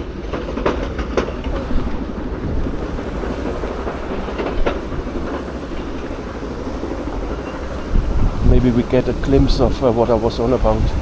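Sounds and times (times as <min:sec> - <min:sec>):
machinery rumbling: 0:00.0 - 0:11.0.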